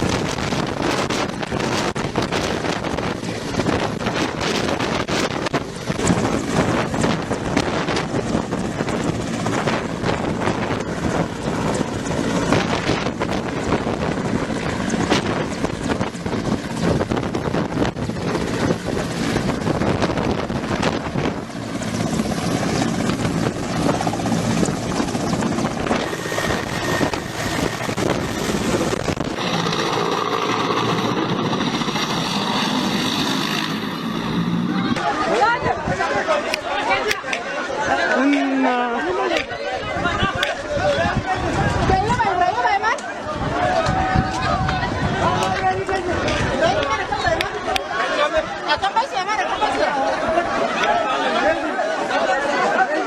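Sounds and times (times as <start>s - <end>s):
helicopter rotor and engine: 0.0s - 53.0s.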